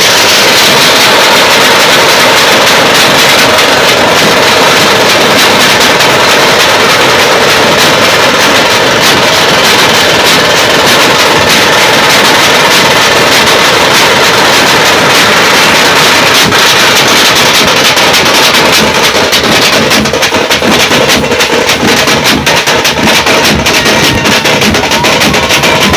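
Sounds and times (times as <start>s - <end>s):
group drumming fast rhythm: 0.0s - 25.9s.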